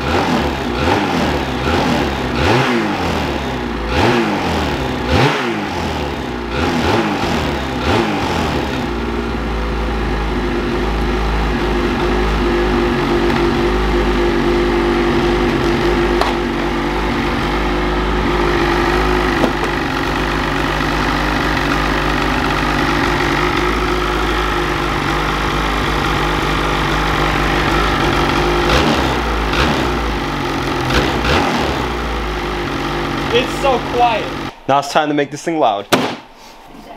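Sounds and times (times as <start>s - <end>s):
snowmobile engine idling: 0.0s - 34.6s.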